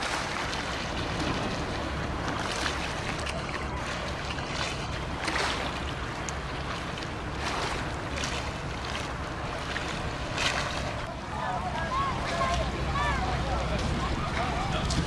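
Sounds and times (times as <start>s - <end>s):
small waves lapping: 0.0s - 15.0s
wind buffeting microphone: 0.0s - 15.0s.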